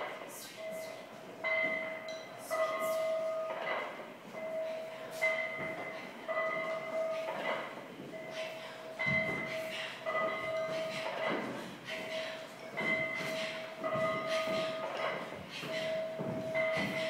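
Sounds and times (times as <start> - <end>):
bell-like ringing tone: 0.6 - 17.0.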